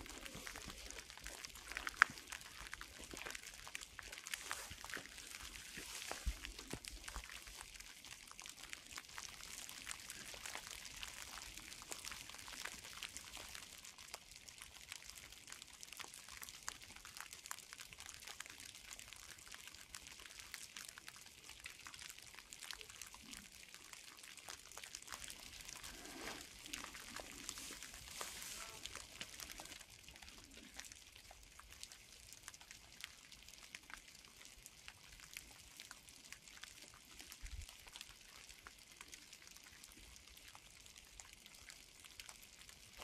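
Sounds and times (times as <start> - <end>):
light rain dripping through trees: 0.0 - 43.0.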